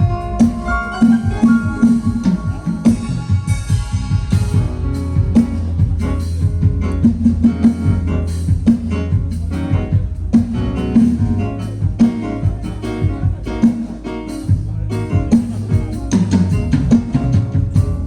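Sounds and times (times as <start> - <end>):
drum kit hits: 0.0 - 18.0
electric guitar playing: 0.0 - 18.0.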